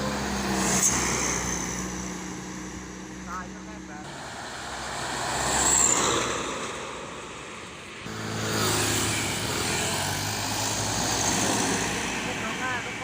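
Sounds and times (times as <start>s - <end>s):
truck engine running loudly: 0.0s - 13.0s
vehicle passing: 0.0s - 13.0s.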